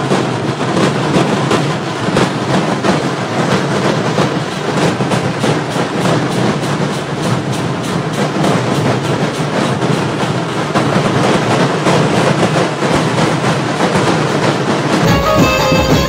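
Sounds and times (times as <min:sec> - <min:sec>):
drummers beating big drums: 0:00.0 - 0:16.0.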